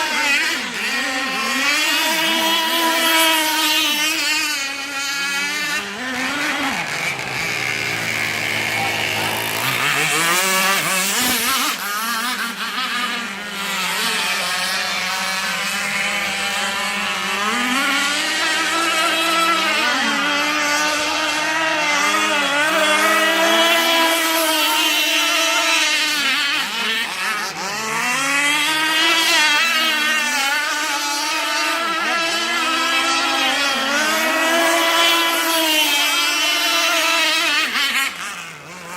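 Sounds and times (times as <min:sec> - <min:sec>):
model boat two-stroke engine revving: 0:00.0 - 0:38.9.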